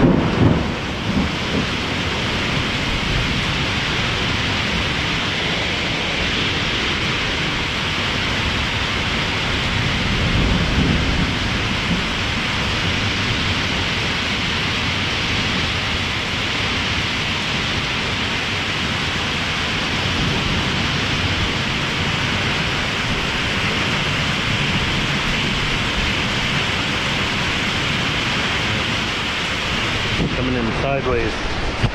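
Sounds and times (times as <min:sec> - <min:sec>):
heavy rain on a roof: 0:00.0 - 0:31.9
low rumble of thunder: 0:00.0 - 0:31.9.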